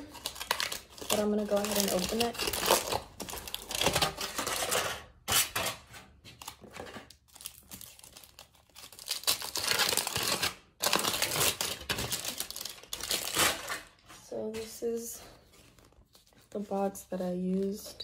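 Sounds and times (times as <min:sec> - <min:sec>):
aluminium foil crinkling: 0:00.0 - 0:05.8, 0:06.4 - 0:14.8, 0:15.6 - 0:18.0.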